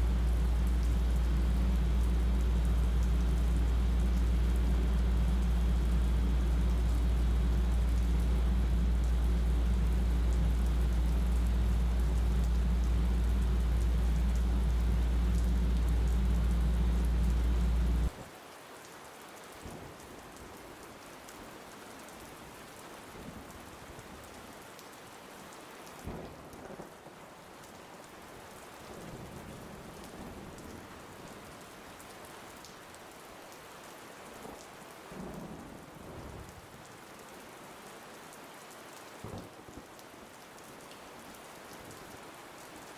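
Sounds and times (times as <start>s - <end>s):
heavy rain downpour: 0.0s - 42.9s
rain drips: 0.0s - 42.9s.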